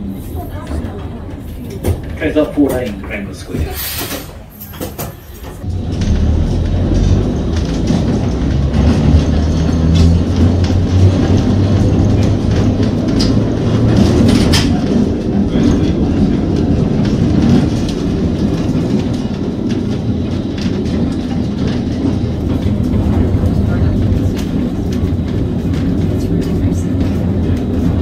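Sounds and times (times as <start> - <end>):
tram rumbling along track: 0.0 - 28.0
wheels clicking on rails: 0.0 - 28.0.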